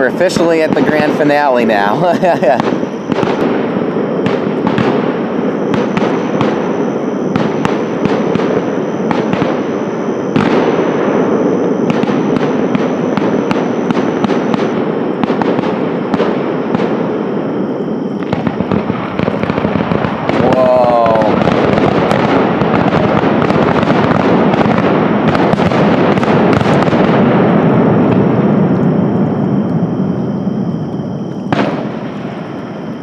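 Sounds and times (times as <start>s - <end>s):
fireworks barrage: 0.0s - 33.0s.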